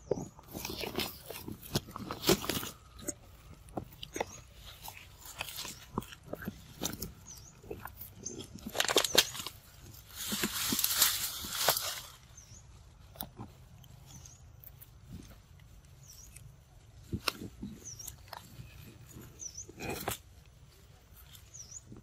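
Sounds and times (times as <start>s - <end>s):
monkeys chewing leaves: 0.0s - 22.0s
rustling of vines and leaves: 0.0s - 22.0s.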